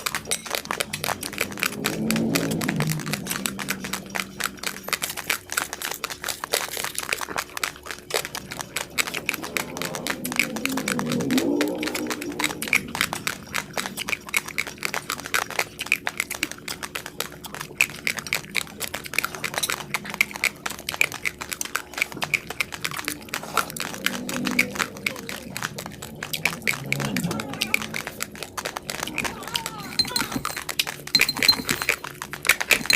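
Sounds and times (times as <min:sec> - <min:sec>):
raw rice being chewed: 0:00.0 - 0:32.9.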